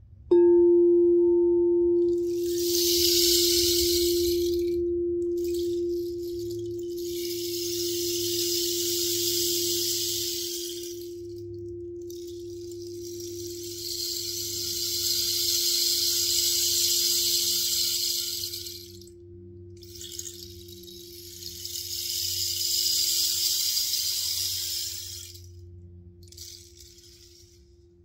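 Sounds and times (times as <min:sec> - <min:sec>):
singing bowl ringing: 0:00.3 - 0:27.8
rain stick trickling hiss: 0:02.2 - 0:04.8, 0:05.4 - 0:19.1, 0:19.8 - 0:25.6, 0:26.2 - 0:27.7.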